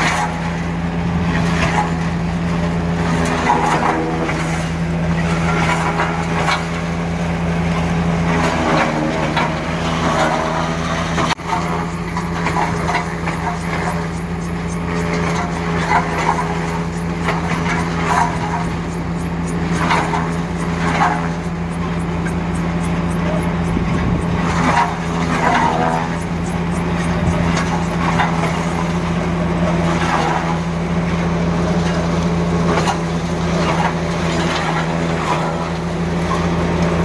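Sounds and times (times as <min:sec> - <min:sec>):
harvester engine drone: 0:00.0 - 0:37.0.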